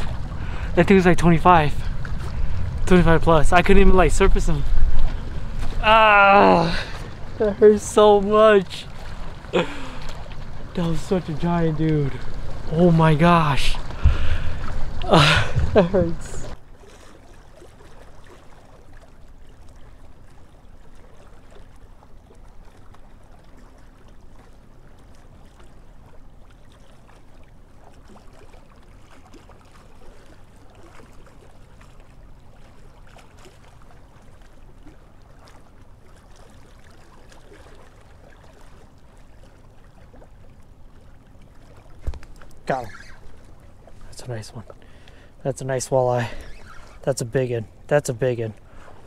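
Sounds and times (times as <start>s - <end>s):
rush of moving water: 0.0s - 49.0s.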